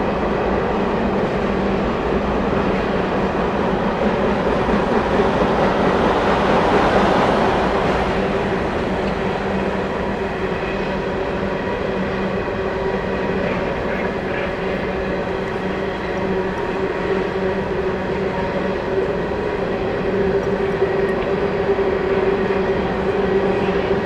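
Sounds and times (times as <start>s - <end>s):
constant low hum: 0.0s - 24.0s.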